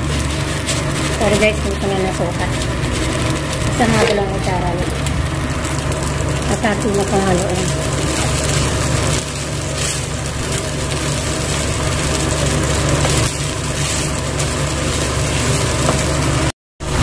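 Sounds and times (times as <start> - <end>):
spatula scraping frying pan: 0.0 - 4.5, 7.1 - 16.5
dry noodles rustling and crackling: 0.0 - 17.0.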